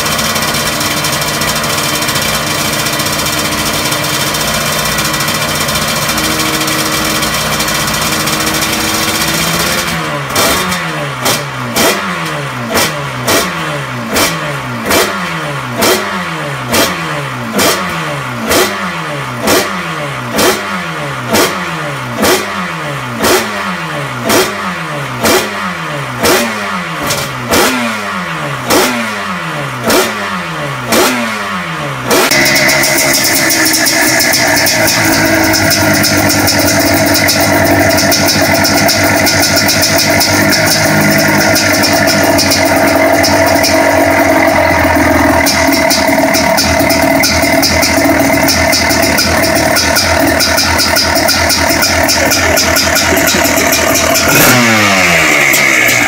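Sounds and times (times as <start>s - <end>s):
engine revs blipping: 0.0s - 56.0s
race engine running: 0.0s - 56.0s.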